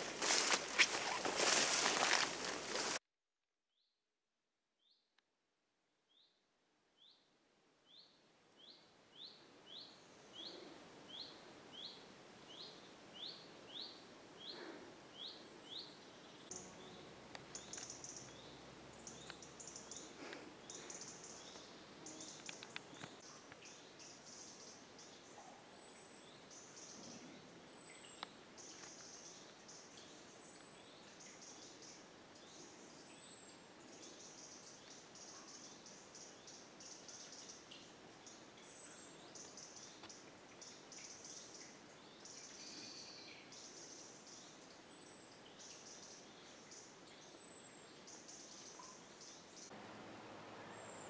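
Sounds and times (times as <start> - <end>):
bird chirping: 7.9 - 49.8.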